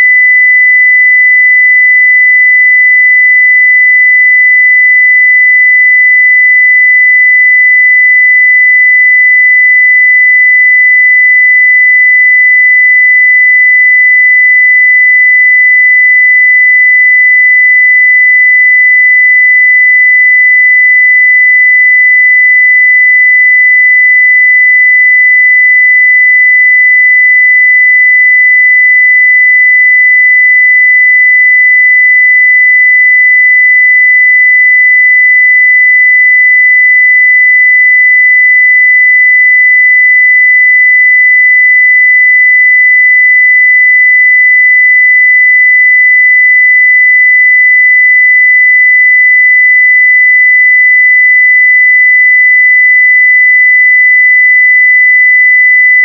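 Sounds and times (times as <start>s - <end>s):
sine-wave test tone: 0.0s - 56.0s.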